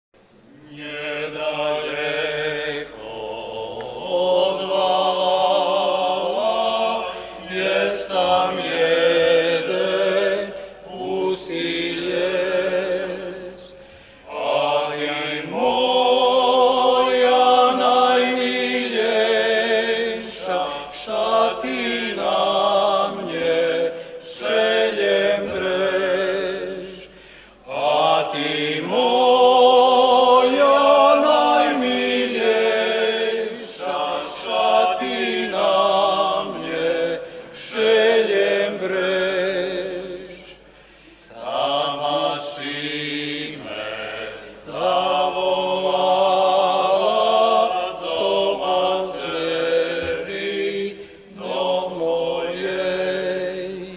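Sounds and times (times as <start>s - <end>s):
men singing a cappella: 0.3s - 53.9s.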